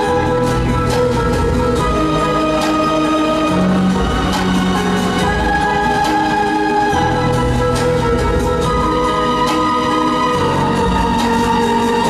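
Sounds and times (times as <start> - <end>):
orchestral show music: 0.0 - 12.0.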